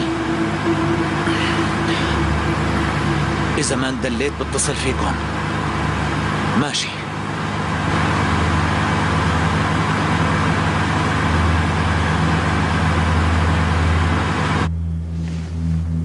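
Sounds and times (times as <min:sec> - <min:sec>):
car road and engine noise: 0:00.0 - 0:16.0
low steady hum: 0:00.0 - 0:16.0.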